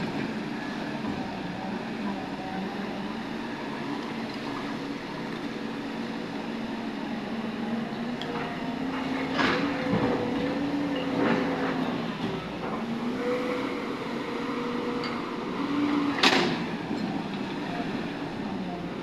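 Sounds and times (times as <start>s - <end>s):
excavator diesel engine and hydraulics: 0.0s - 19.0s.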